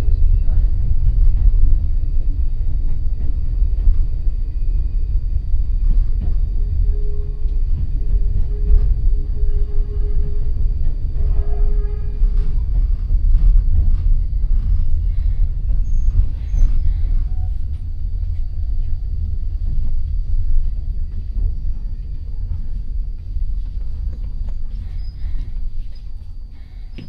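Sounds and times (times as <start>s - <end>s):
train running rumble: 0.0s - 27.0s.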